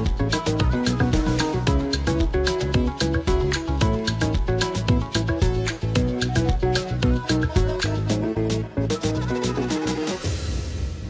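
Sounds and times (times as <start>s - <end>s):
upbeat music with drum beat: 0.0s - 10.7s.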